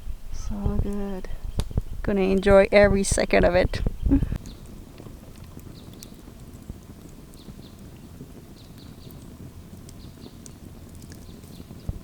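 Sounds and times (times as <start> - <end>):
campfire crackling: 0.0 - 12.0
wind rumble on microphone: 0.0 - 12.0.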